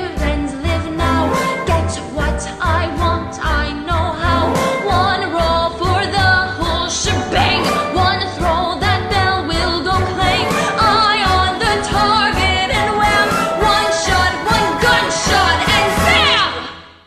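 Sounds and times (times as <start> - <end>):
person singing with vibrato: 0.0 - 16.8.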